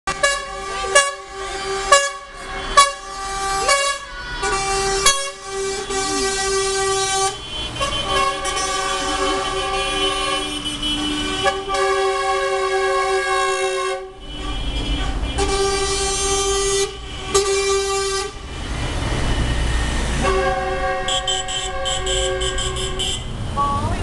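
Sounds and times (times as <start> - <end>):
truck air horns: 0.1 - 23.4.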